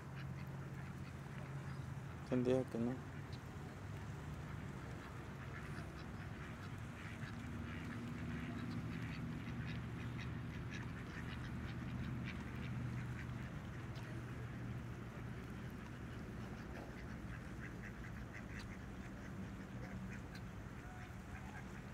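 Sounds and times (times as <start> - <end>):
ducks calling quietly: 0.0 - 21.9
steady low hum: 0.0 - 21.9
ducks' bills clicking and splashing: 0.1 - 21.9.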